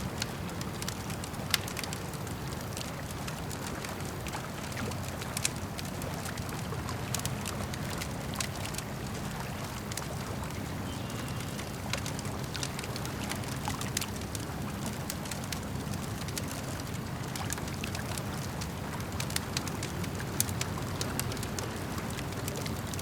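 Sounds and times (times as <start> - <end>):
campfire crackling and popping: 0.0 - 23.0
lake water lapping: 0.0 - 23.0.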